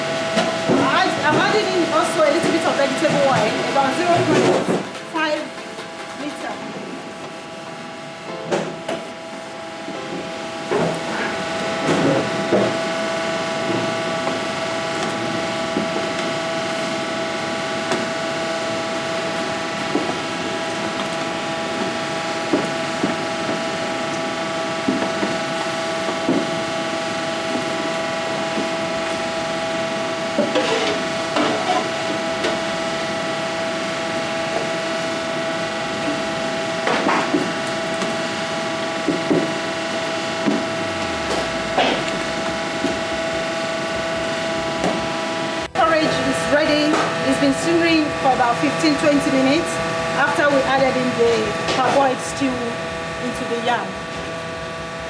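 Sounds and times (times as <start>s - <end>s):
kitchen equipment hum: 0.0s - 55.0s.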